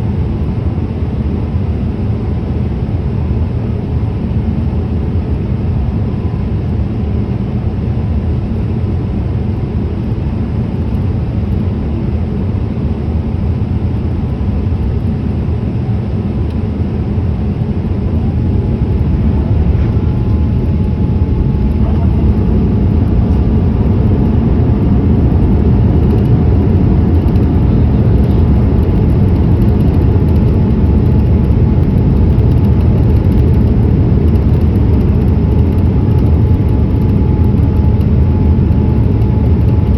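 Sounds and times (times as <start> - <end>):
airliner engine rumble: 0.0 - 39.9.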